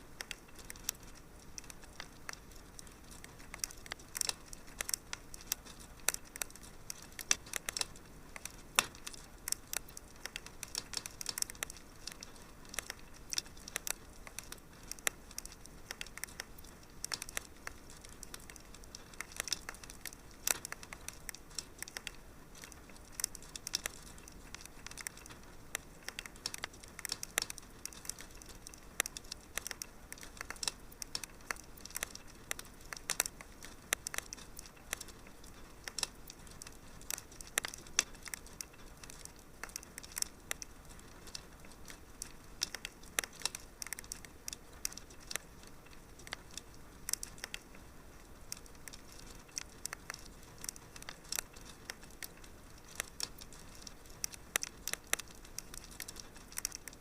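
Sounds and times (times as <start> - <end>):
fire crackling in a fireplace: 0.0 - 57.0
soft steady hiss: 0.0 - 57.0.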